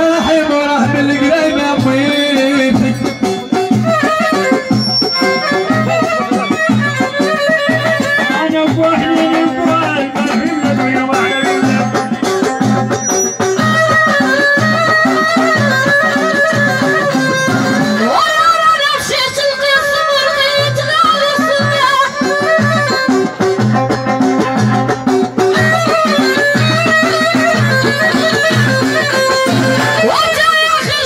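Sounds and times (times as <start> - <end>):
violin melody: 0.0 - 30.9
hand drum beat: 0.8 - 31.0.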